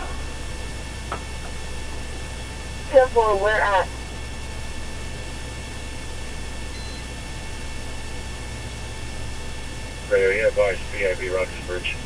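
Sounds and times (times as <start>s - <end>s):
radio static hiss and hum: 0.0s - 12.0s.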